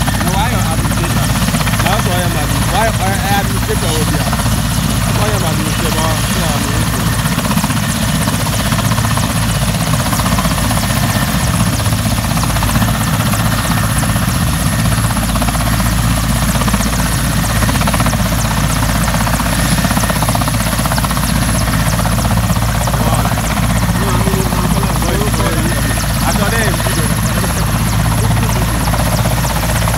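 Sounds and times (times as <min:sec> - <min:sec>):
helicopter rotor beat: 0:00.0 - 0:29.9
high turbine whine: 0:00.0 - 0:29.9.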